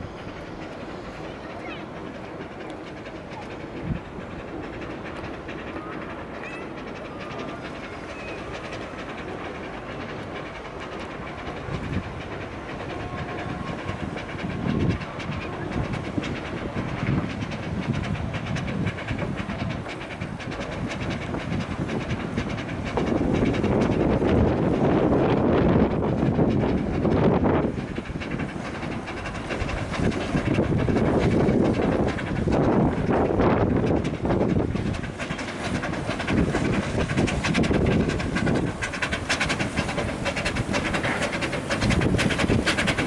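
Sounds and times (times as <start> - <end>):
locomotive running slowly: 0.0 - 43.0.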